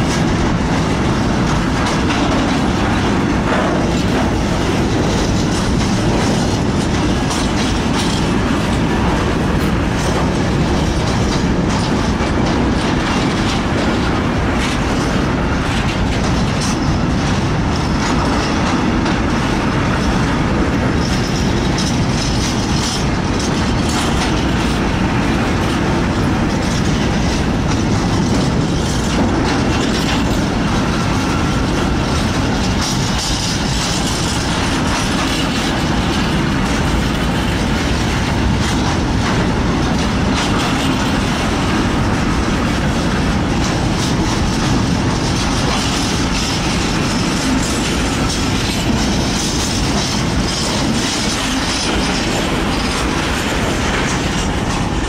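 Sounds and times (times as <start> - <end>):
freight train wagons rumbling: 0.0 - 55.0
wheels clickety-clack on rail joints: 0.0 - 55.0.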